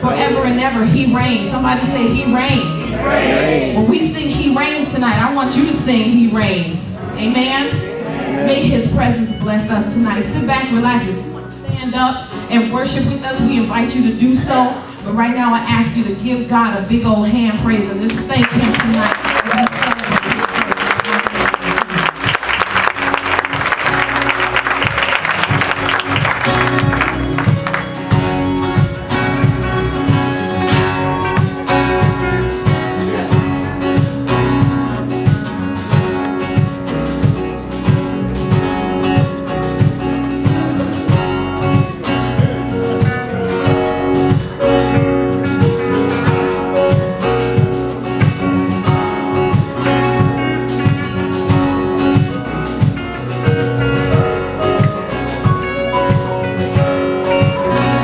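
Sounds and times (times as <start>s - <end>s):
live band with strummed guitar: 0.0s - 58.0s.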